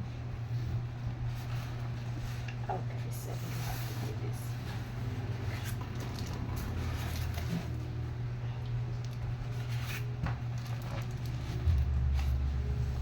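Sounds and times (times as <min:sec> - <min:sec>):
steady low hum: 0:00.0 - 0:13.0
paper and packaging rustling: 0:01.2 - 0:07.9, 0:09.0 - 0:13.0.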